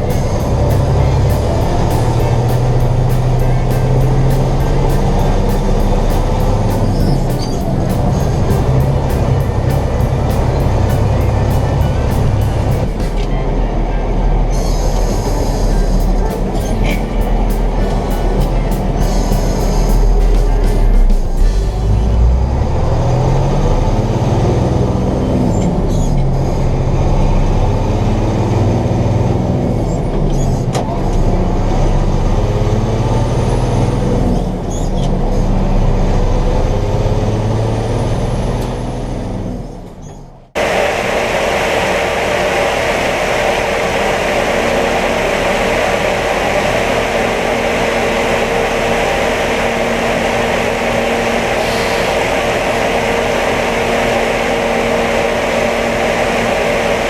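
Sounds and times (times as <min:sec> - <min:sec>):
engine shifting pitch: 0:00.0 - 0:30.2, 0:30.8 - 0:57.0
steady machine drone: 0:00.0 - 0:57.0.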